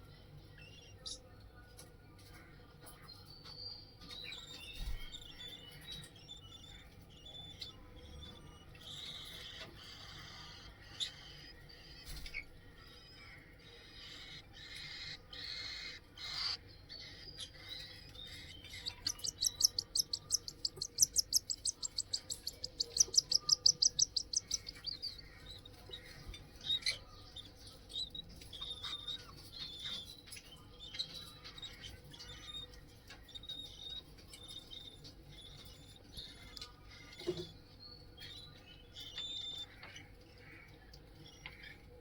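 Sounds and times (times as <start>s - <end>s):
cockatiels chirping: 4.0s - 12.6s, 13.9s - 40.6s.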